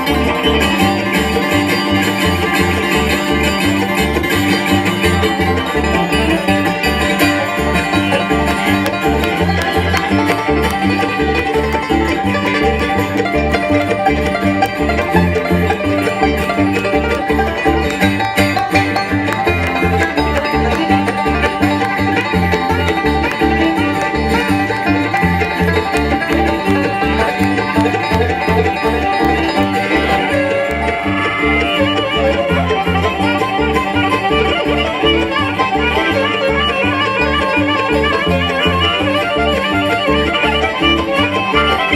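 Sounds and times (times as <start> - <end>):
banjo: 0.0 - 41.9
bluegrass band playing: 0.0 - 41.9.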